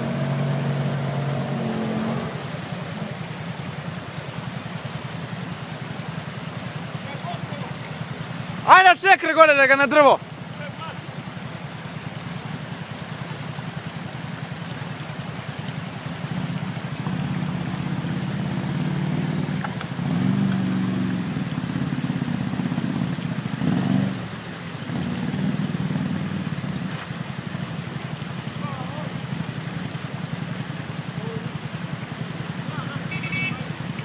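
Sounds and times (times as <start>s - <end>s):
atv engine revving: 0.0s - 9.0s, 9.6s - 34.0s
river water rushing: 0.0s - 34.0s.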